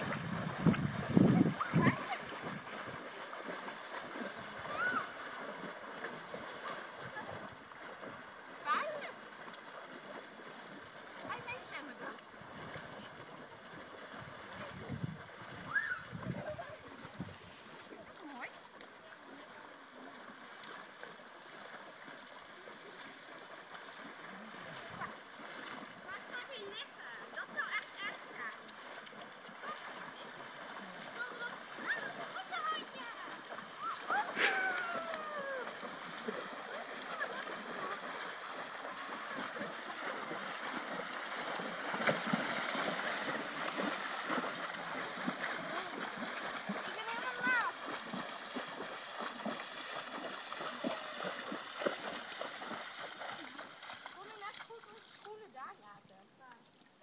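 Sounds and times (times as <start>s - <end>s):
ponies splashing through water: 0.0s - 57.0s.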